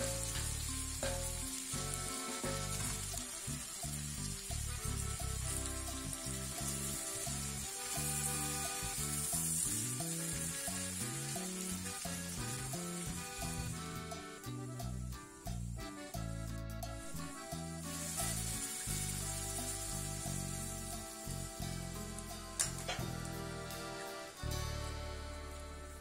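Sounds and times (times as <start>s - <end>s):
chicken sizzling in oil: 0.0s - 15.6s, 16.8s - 26.0s
background music: 0.0s - 26.0s.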